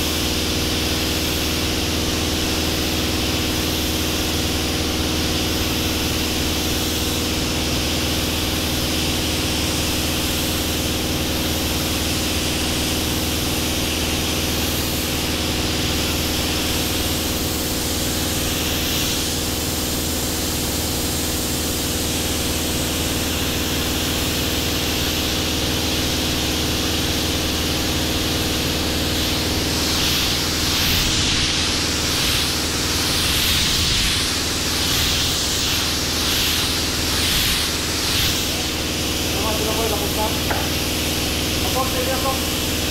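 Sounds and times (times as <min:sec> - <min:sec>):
paint spray gun hissing: 0:00.0 - 0:42.9
steady machine hum: 0:00.0 - 0:42.9.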